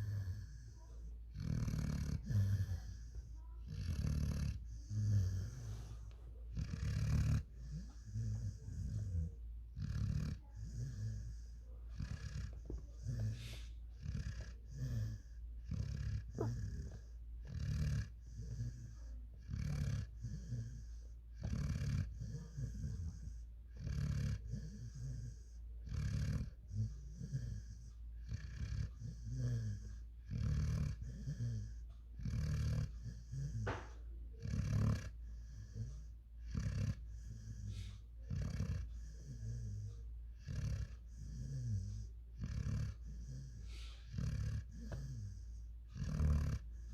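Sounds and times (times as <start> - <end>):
puppy snoring: 0.0 - 46.9.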